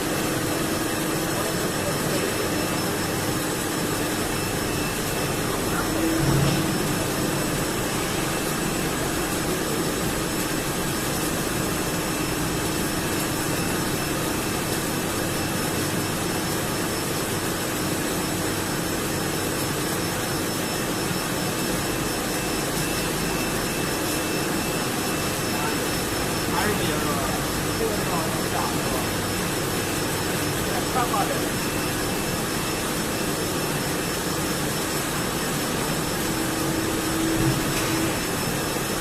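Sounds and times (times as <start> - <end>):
welding machine droning: 0.0 - 39.0.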